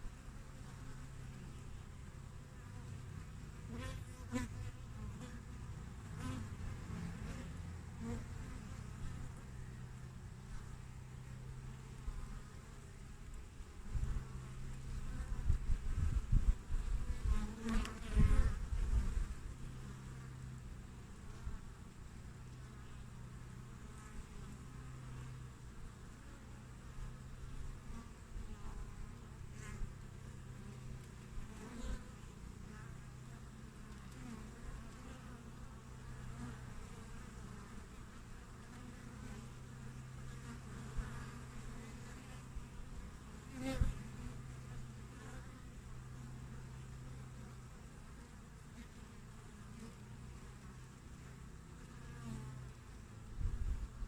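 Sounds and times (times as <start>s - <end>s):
honeybees buzzing: 0.1s - 54.0s.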